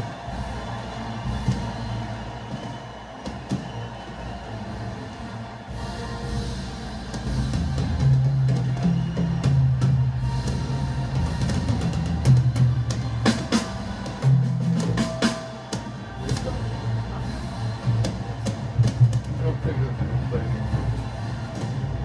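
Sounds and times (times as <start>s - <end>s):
drums: 0.0s - 22.0s.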